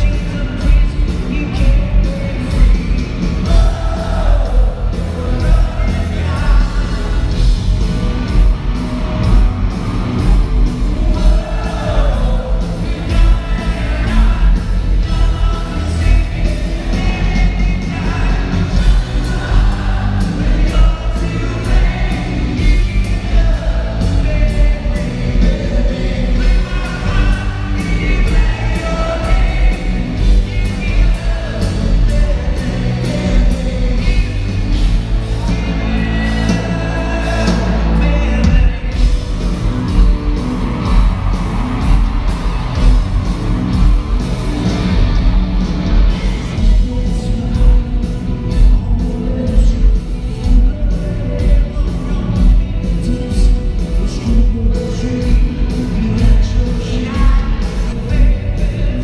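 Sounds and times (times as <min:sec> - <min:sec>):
lead singer's voice: 0:00.0 - 0:59.0
live rock band playing: 0:00.0 - 0:59.0
steady drum beat: 0:00.0 - 0:59.0.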